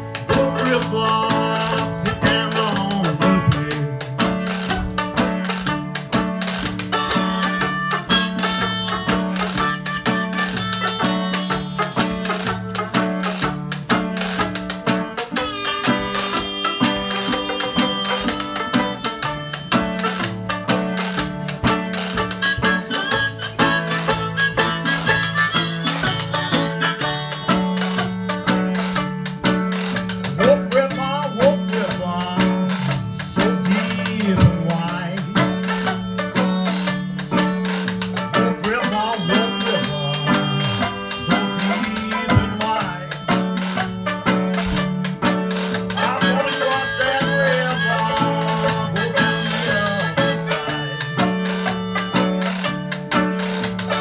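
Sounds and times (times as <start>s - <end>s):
harmonica: 0.0s - 54.0s
picked guitar: 0.0s - 54.0s
strummed banjo: 0.0s - 54.0s.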